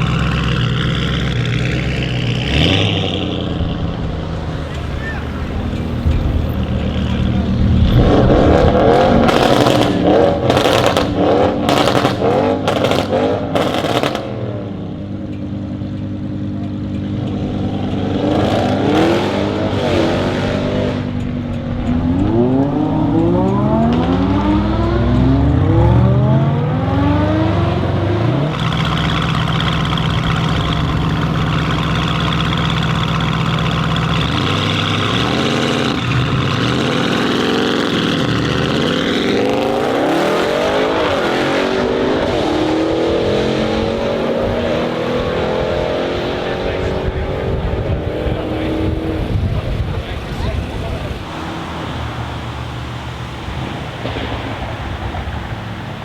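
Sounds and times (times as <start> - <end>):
exhaust crackles and pops: 0.0 - 41.5, 46.4 - 56.0
car engine revving: 0.0 - 56.0.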